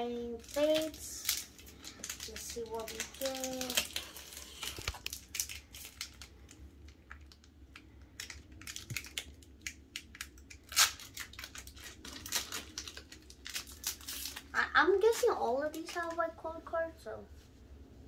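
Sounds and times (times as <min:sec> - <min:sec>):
foil wrapper crinkling and tearing: 0:00.0 - 0:16.5.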